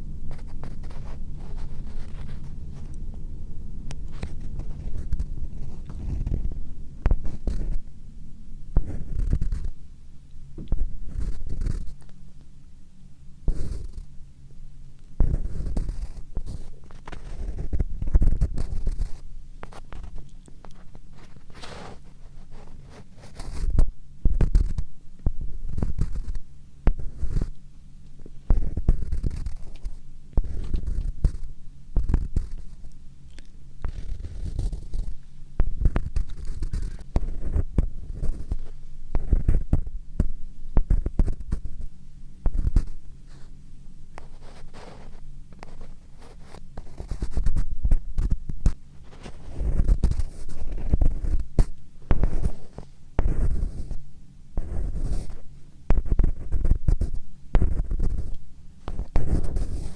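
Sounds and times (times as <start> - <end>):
scratching on close microphone: 0.0 - 8.0, 8.7 - 9.9, 10.6 - 12.2, 13.4 - 14.2, 15.1 - 27.6, 28.2 - 59.9.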